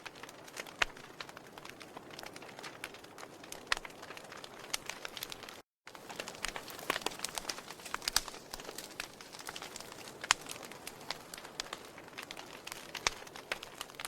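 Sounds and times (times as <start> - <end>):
logs crackling and popping: 0.0 - 14.0
fire hissing: 0.1 - 14.0.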